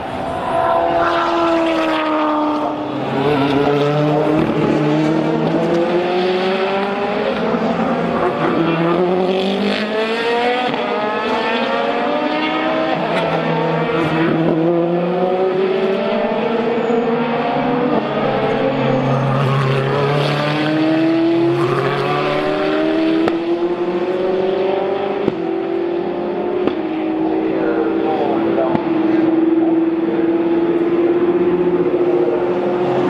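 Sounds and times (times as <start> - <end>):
racing car engines at full throttle: 0.0 - 33.0.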